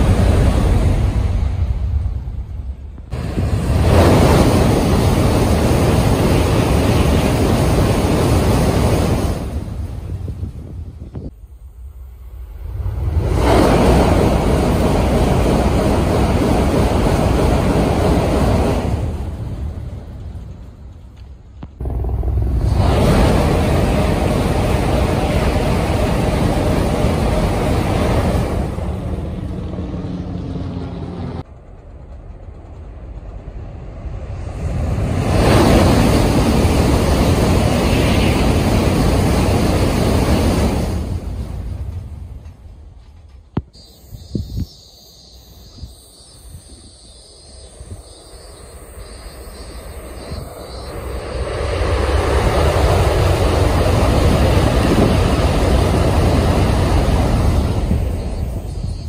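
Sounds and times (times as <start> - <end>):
high-speed trains rushing past: 0.0 - 59.0.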